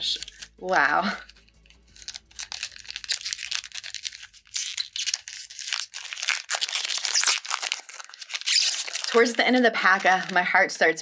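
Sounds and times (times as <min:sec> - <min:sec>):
foil wrapper crinkling: 0:00.0 - 0:10.6.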